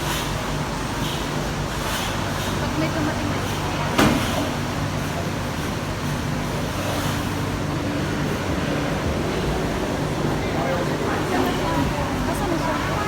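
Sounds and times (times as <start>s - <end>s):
cable car machinery humming: 0.0s - 13.0s.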